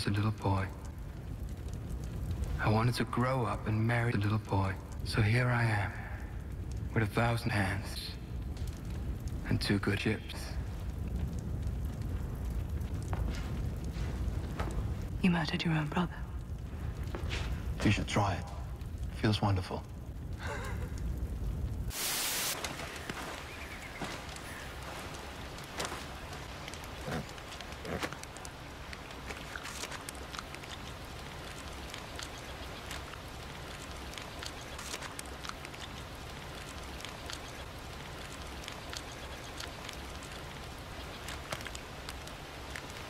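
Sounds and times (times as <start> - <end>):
faint crackles: 0.0 - 43.0
steady hiss: 0.0 - 43.0.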